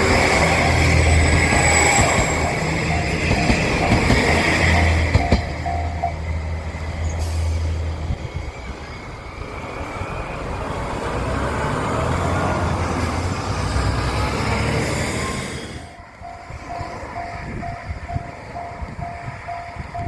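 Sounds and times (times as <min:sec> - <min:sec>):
diesel railcar engine droning: 0:00.0 - 0:20.0.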